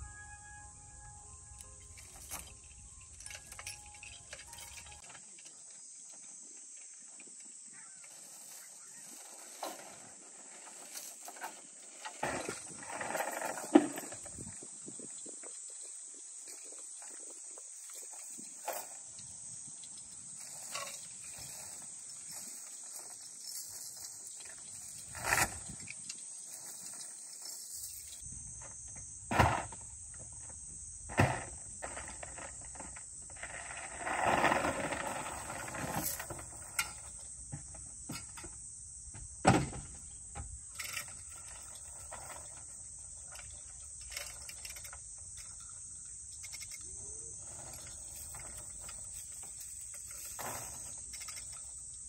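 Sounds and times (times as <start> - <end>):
insects trilling: 0.0 - 52.0.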